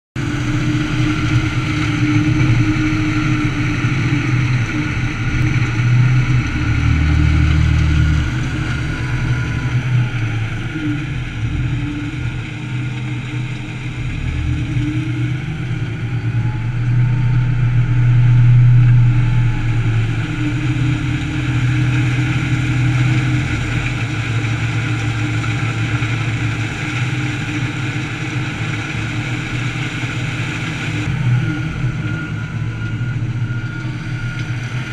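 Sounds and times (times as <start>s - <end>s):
wheel loader engine: 0.2s - 34.9s.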